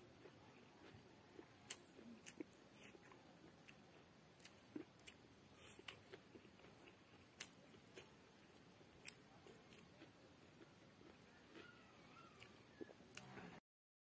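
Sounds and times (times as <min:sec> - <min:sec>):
person chewing: 0:00.2 - 0:13.5.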